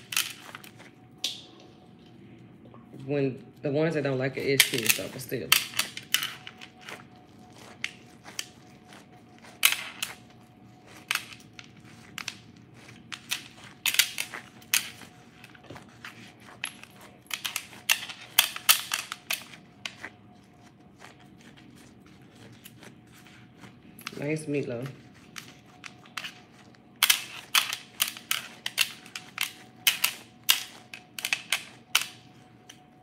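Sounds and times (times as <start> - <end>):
gloved hands squishing meat: 0.0 - 2.0, 4.0 - 33.0.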